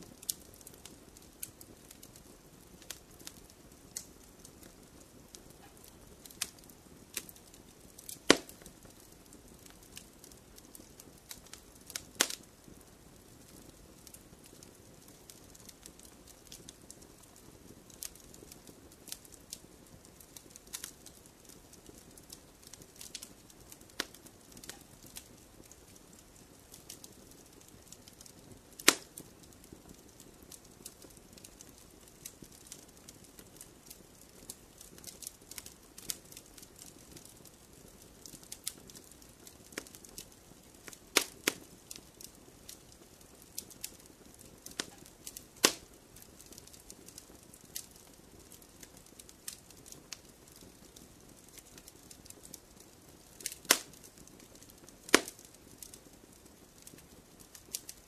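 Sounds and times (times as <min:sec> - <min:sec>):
sharp fire snaps: 0:00.0 - 0:58.0
soft low hiss: 0:00.0 - 0:58.0
wood fire crackling and popping: 0:00.0 - 0:58.0.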